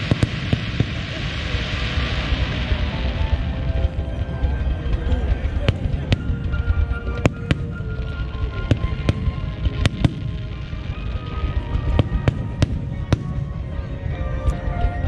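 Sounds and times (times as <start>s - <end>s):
sharp fireworks bangs: 0.0s - 14.0s
fireworks launching and bursting: 0.0s - 14.4s.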